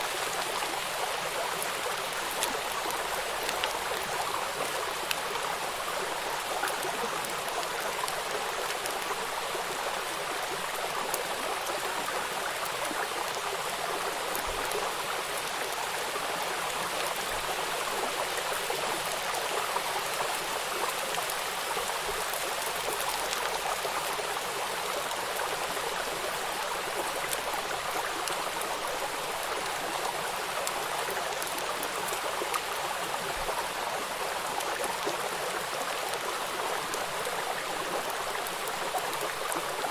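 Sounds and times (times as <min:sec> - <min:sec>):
rain falling on water: 0:00.0 - 0:39.9
river flowing: 0:00.0 - 0:39.9.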